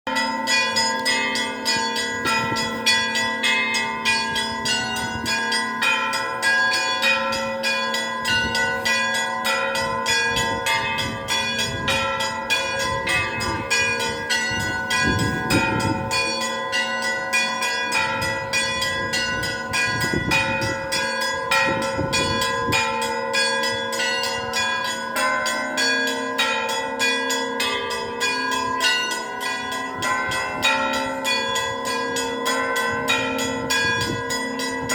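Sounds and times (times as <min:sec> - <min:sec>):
hum of larger bells: 0:00.1 - 0:34.9
small bells struck rapidly: 0:00.1 - 0:34.9.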